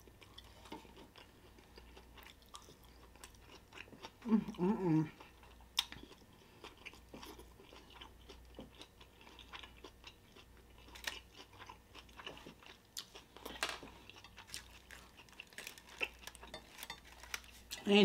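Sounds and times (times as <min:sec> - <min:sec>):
person chewing food: 0:00.0 - 0:17.8.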